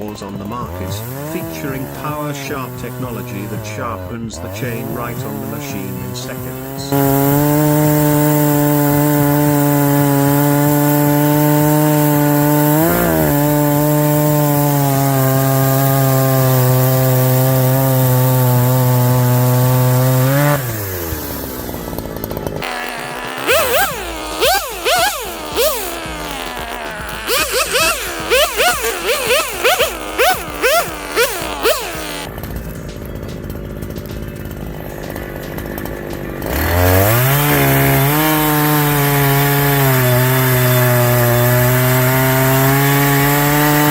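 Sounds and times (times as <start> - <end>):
electric chainsaw running: 0.0 - 43.9.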